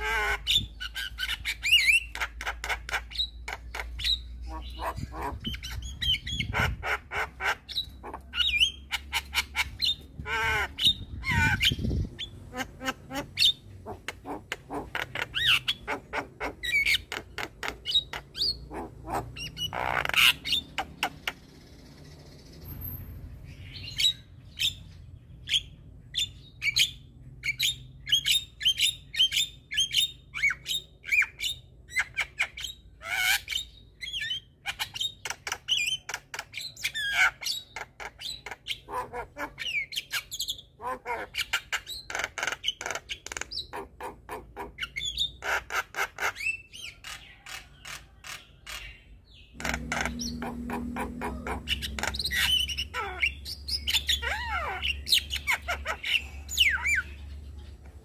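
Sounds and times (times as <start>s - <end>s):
bird chattering: 0.0s - 58.0s.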